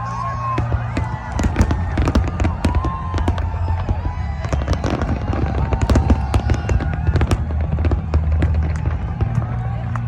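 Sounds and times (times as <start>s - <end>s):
constant low rumble: 0.0s - 10.0s
fireworks bangs and crackles: 0.0s - 10.0s.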